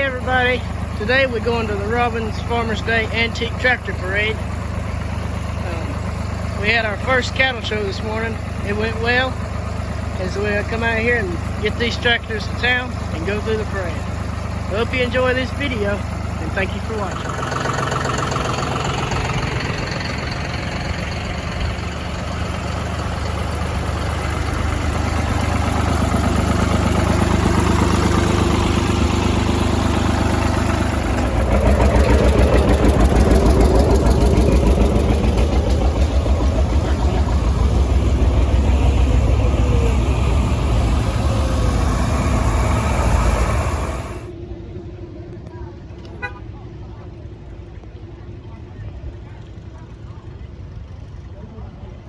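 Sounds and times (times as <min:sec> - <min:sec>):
tractor engine running: 0:00.0 - 0:46.4.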